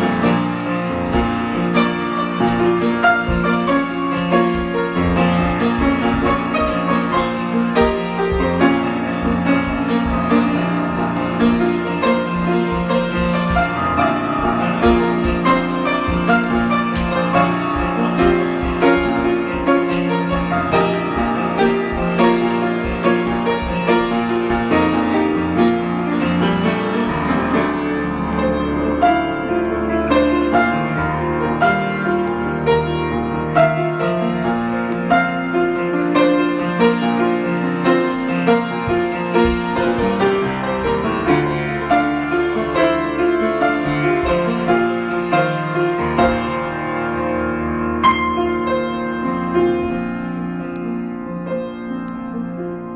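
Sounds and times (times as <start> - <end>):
solo piano: 0.0 - 52.9.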